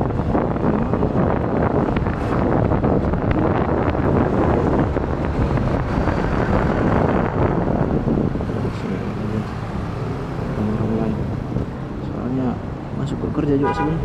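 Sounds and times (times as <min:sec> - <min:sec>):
wind rumble on microphone: 0:00.0 - 0:13.4
road noise: 0:00.0 - 0:14.0.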